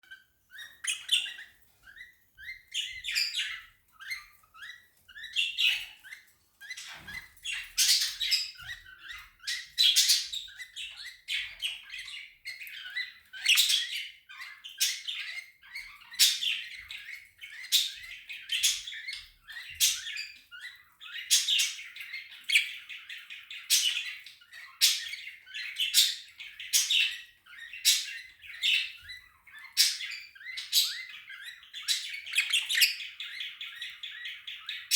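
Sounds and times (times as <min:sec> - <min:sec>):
budgerigar squeaking and chirping: 0:00.1 - 0:34.9.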